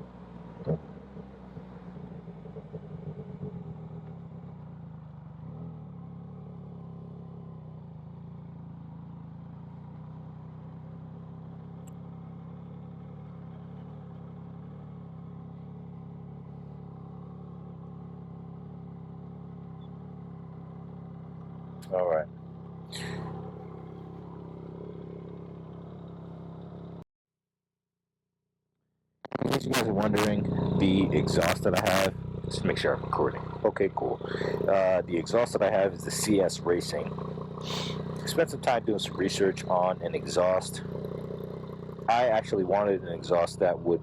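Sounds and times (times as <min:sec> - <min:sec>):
motorcycle engine idling: 0:00.0 - 0:27.0, 0:29.8 - 0:44.0.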